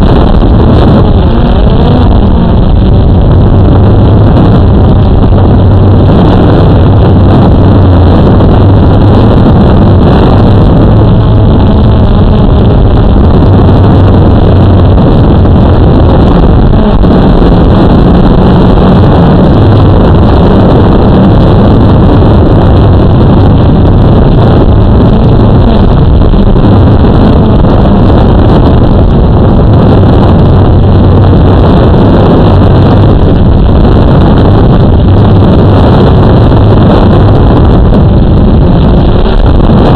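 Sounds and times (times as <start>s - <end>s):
drone propellers buzzing: 0.0s - 39.9s
wind noise: 0.0s - 39.9s.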